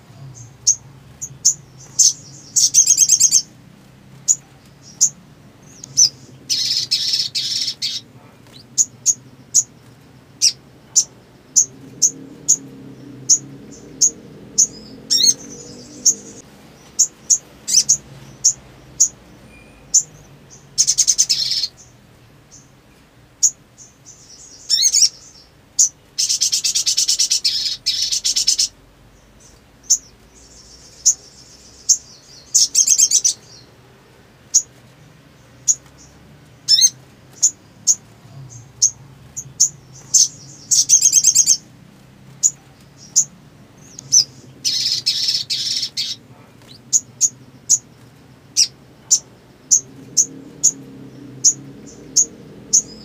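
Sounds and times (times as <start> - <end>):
high bird chirps: 0.1 - 3.6, 4.2 - 22.8, 23.4 - 33.7, 35.4 - 41.7, 42.4 - 53.0.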